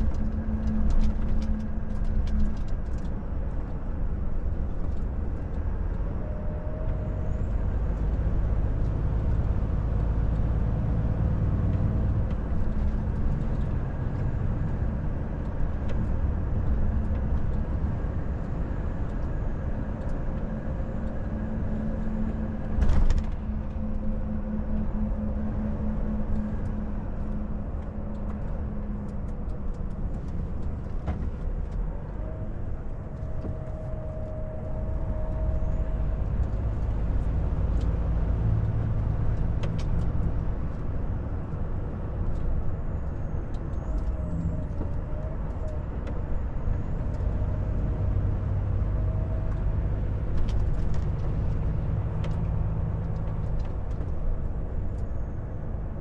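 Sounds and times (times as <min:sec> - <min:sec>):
road noise: 0:00.0 - 0:56.0
truck diesel engine: 0:00.0 - 0:56.0.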